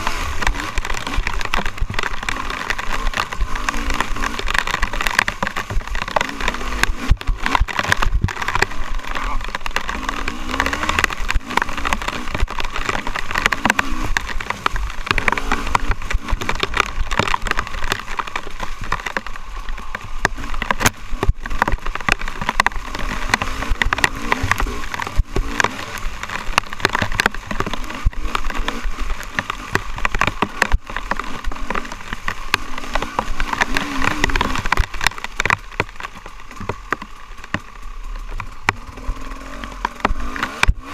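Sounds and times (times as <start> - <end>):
knocks and rattles from bike: 0.0 - 40.9
motorcycle engine revving: 0.0 - 40.9.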